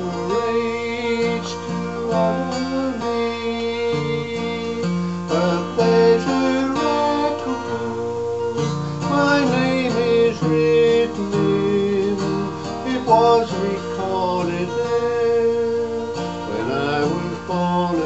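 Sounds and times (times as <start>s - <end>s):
man singing: 0.0s - 18.0s
strummed acoustic guitar: 0.0s - 18.0s.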